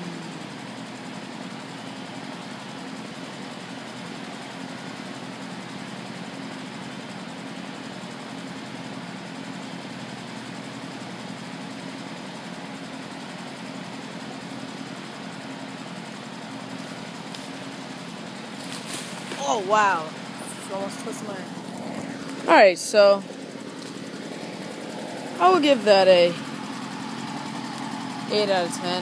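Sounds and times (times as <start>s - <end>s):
leaf blower engine idling: 0.0s - 29.0s.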